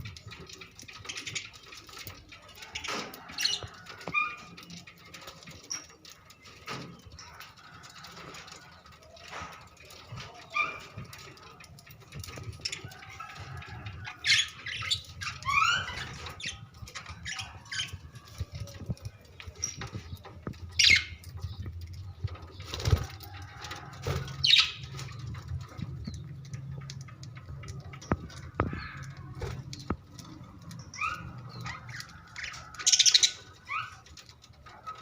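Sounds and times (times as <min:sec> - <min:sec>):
budgerigars chirping and squawking: 0:00.1 - 0:35.0.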